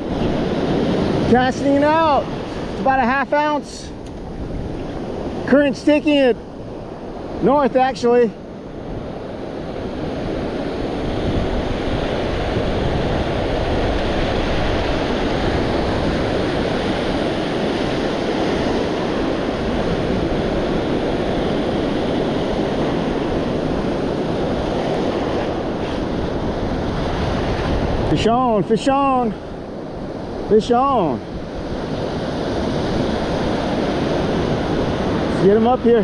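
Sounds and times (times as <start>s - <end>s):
ocean waves breaking on beach: 0.0s - 36.0s
wind buffeting microphone: 0.0s - 36.0s.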